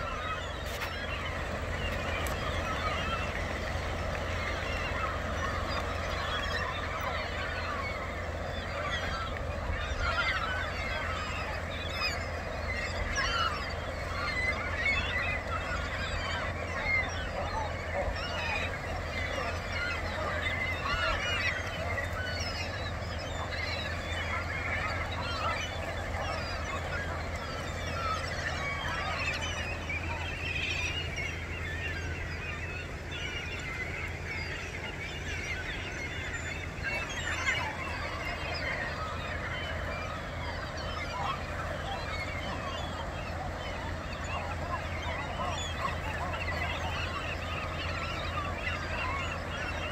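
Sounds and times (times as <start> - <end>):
seabirds calling: 0.0 - 49.9.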